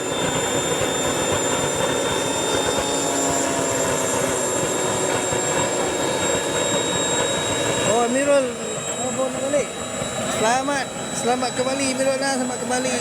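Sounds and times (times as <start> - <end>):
model airplane engine whine: 0.0 - 13.0.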